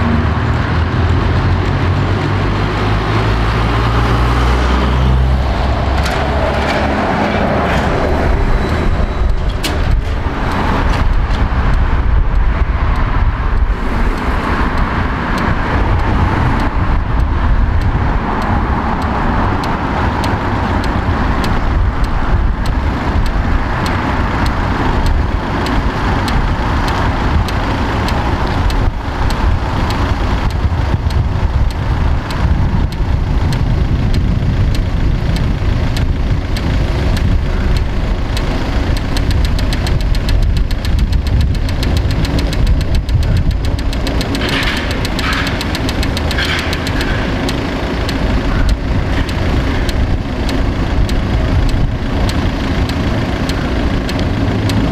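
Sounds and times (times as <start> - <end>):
car engines and tyres rumbling: 0.0 - 54.9.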